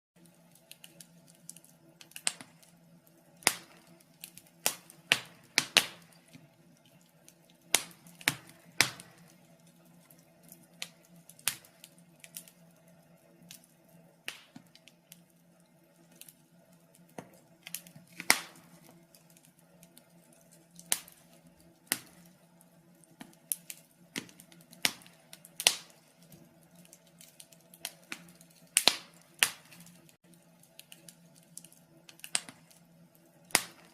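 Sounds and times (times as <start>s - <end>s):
wood fire crackling: 0.2s - 33.9s.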